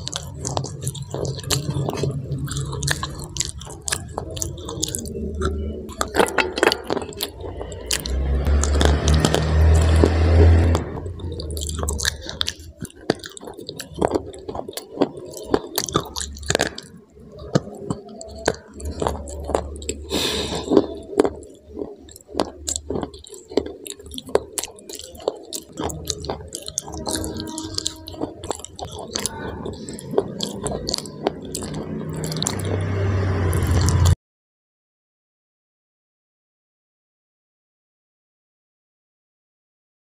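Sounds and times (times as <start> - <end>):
crunching of a hard stick: 0.0 - 34.2.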